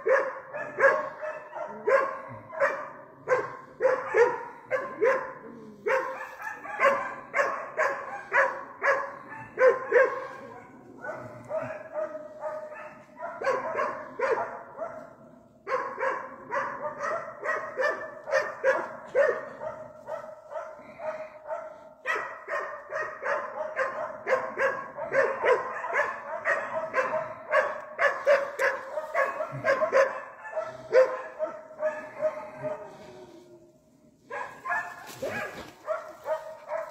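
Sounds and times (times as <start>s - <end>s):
dog barking rapidly: 0.0s - 32.8s, 34.3s - 36.9s.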